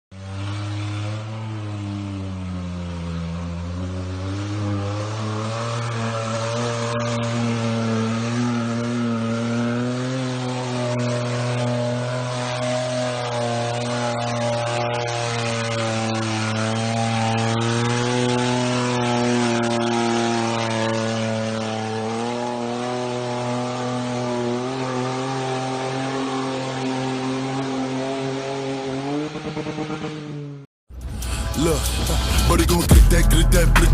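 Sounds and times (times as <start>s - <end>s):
car engine revving under load: 0.1s - 33.9s.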